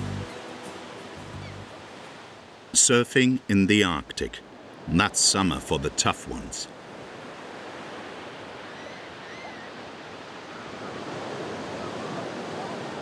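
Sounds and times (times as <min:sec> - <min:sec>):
waves breaking: 0:00.0 - 0:13.0.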